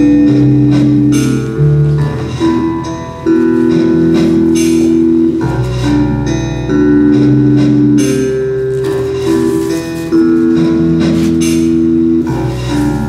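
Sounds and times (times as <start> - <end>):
instrumental music with held chords: 0.0 - 13.0.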